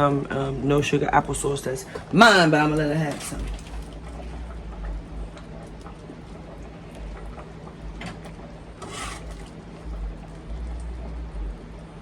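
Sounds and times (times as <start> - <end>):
low hum: 0.5 - 12.0.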